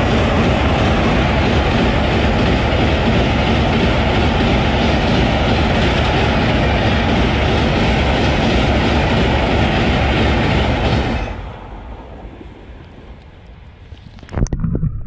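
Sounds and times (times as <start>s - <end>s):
train running over steel bridge: 0.0s - 14.2s.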